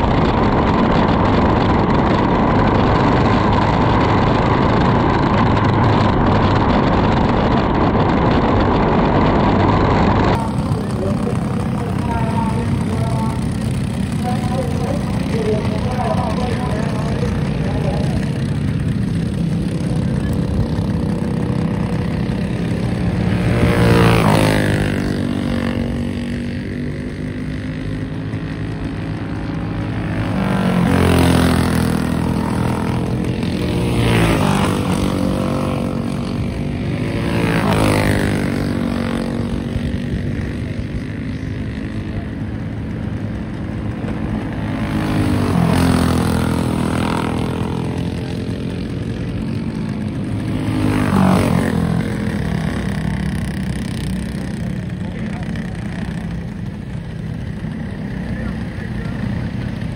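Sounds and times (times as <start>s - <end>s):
kart engine racing past: 0.0s - 59.9s.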